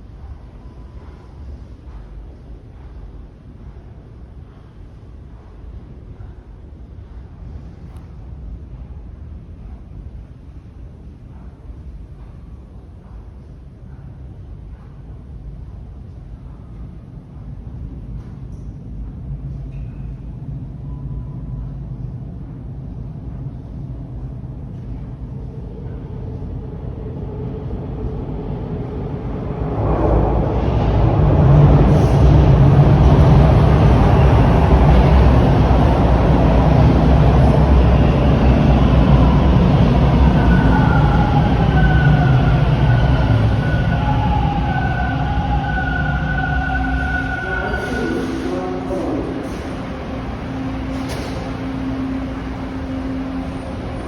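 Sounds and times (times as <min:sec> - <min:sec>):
subway train arriving: 0:00.0 - 0:54.0.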